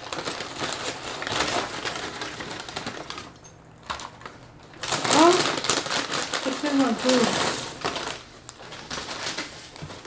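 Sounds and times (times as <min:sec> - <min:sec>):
paper bags crinkling: 0:00.0 - 0:10.0.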